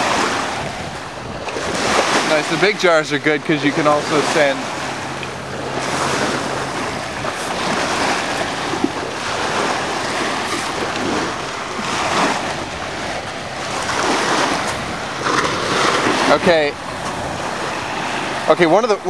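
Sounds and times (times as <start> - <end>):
small waves washing on shore: 0.0 - 19.0
wind on microphone: 0.0 - 19.0.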